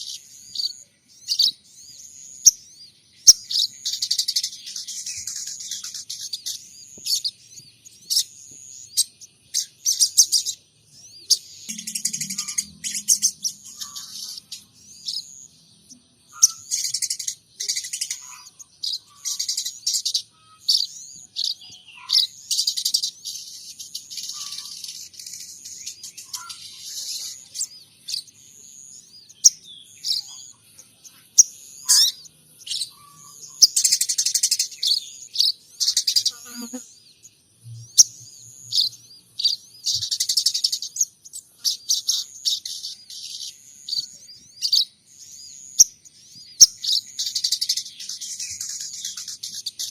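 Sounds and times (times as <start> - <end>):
songbird chirping and trilling: 0.0 - 49.9.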